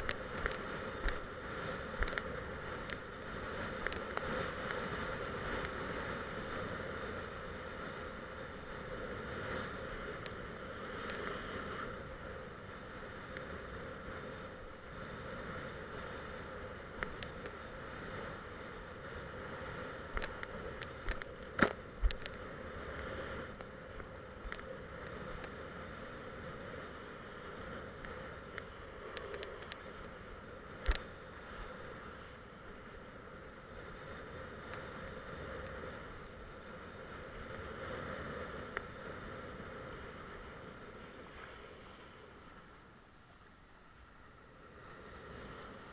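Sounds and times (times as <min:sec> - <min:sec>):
rush of water and wind: 0:00.0 - 0:45.9.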